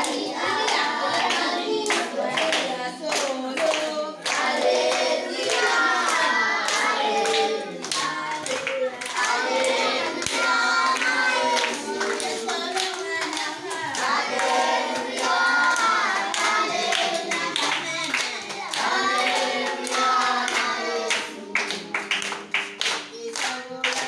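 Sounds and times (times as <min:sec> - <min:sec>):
children singing together: 0:00.0 - 0:24.0
hands clapping: 0:00.0 - 0:24.0.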